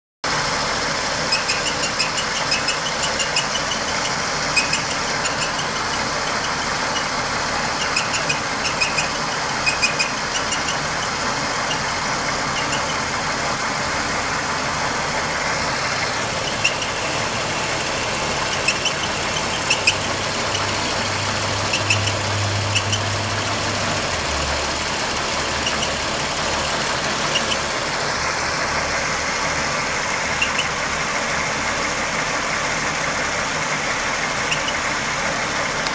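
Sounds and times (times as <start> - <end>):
car engine running: 0.2 - 35.9
short irregular engine ticks: 0.3 - 35.9.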